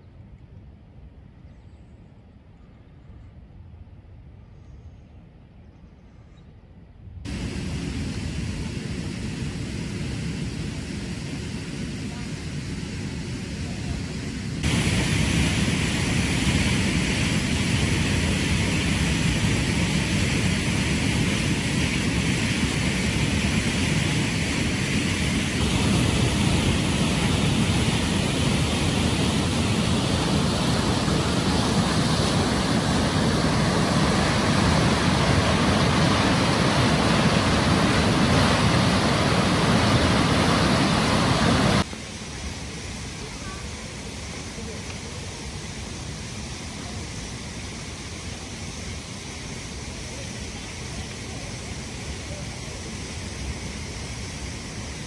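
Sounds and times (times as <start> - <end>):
water rushing through ditch: 7.3 - 55.0.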